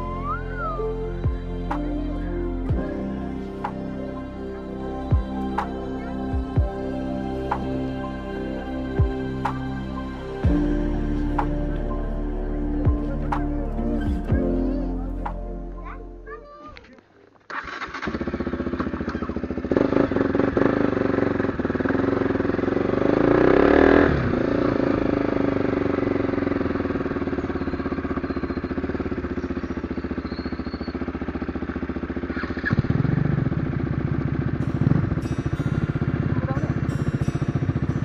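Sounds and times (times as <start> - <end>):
motorcycle engine revving: 0.0 - 15.8, 17.5 - 38.0.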